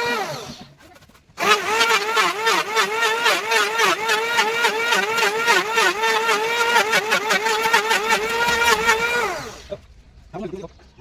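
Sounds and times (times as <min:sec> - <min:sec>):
power tool cutting wood: 0:00.0 - 0:00.7, 0:01.4 - 0:09.8.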